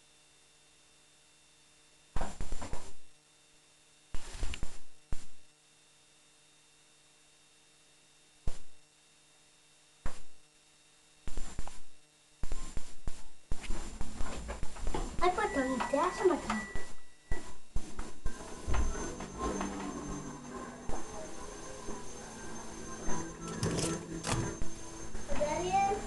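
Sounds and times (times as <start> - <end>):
faint electrical hum: 0.0 - 26.0.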